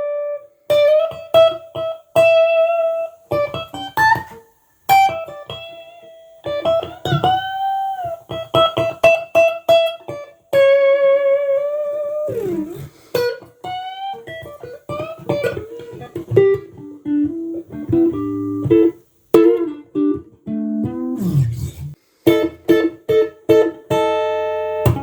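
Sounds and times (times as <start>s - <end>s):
electric guitar lead melody: 0.0s - 25.0s.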